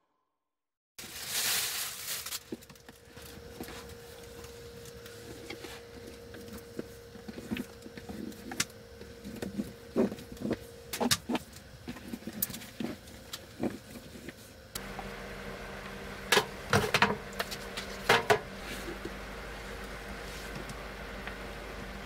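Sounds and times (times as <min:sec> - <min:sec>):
faint steady hum: 0:01.0 - 0:22.0.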